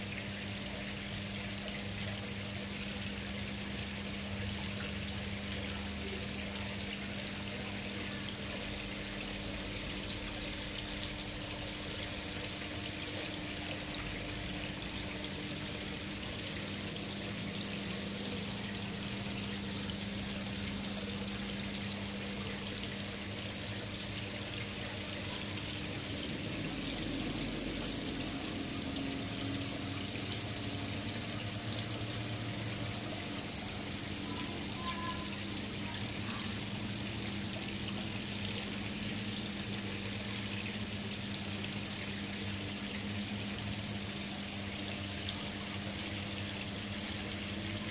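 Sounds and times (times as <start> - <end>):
steady low hum: 0.0 - 47.9
water pouring into pond: 0.0 - 47.9.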